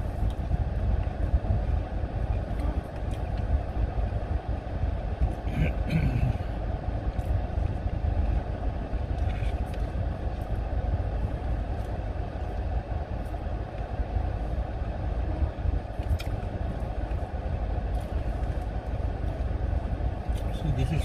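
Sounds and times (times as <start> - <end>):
low rumble inside car: 0.0 - 21.0.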